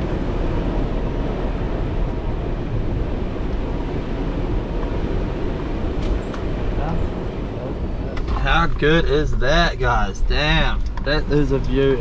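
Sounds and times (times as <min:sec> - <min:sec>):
vehicle rumble off-road: 0:00.0 - 0:12.0.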